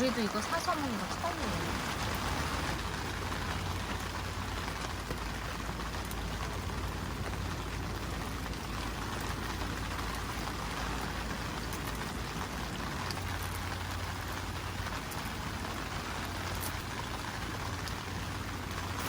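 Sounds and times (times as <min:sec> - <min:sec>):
low rumble: 0:00.0 - 0:19.0
rain pattering: 0:00.0 - 0:19.0.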